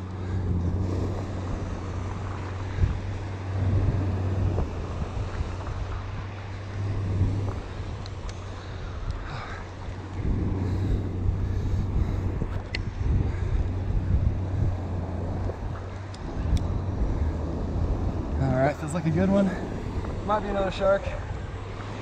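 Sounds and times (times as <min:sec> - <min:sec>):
surf washing on beach: 0:00.0 - 0:22.0
wind rumbling on microphone: 0:00.0 - 0:22.0.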